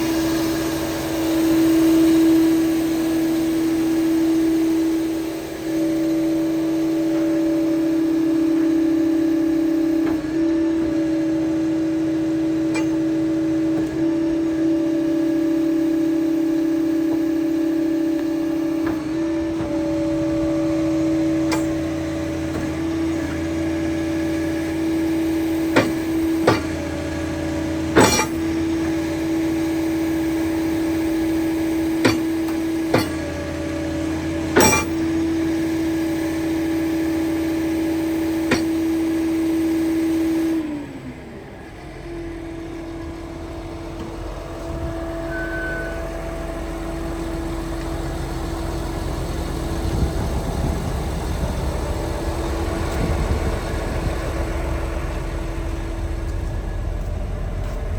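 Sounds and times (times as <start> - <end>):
diesel engine idling rumble: 0.0 - 57.9
machine hum: 0.0 - 57.9.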